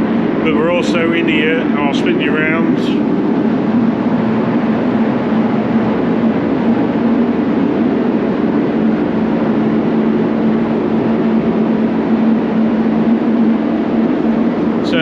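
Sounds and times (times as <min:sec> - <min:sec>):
constant hum: 0:00.0 - 0:15.0
fans rushing air: 0:00.0 - 0:15.0.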